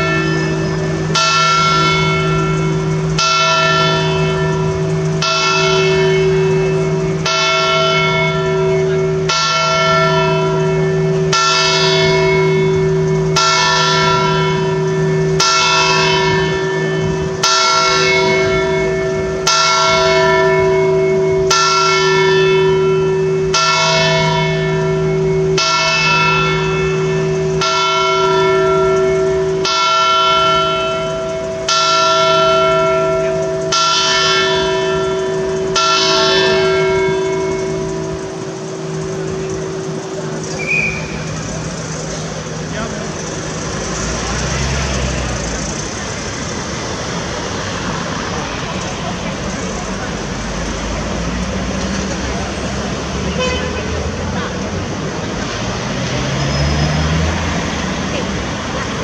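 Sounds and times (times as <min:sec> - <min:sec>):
bell tolling slowly: 0:00.0 - 0:59.0.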